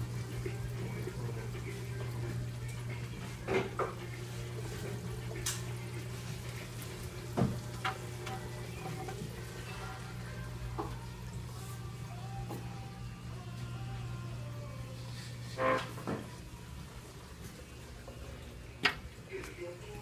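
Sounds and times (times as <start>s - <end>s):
filtration pump humming: 0.0s - 20.0s.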